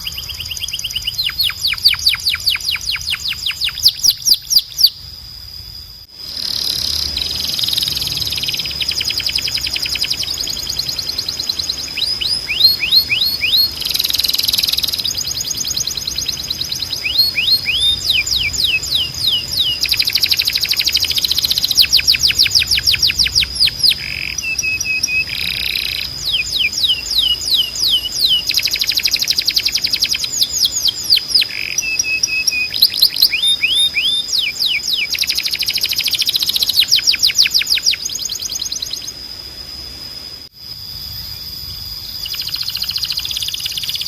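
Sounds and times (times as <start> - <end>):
canary singing trills: 0.0 - 5.1, 6.2 - 39.2, 41.2 - 44.0.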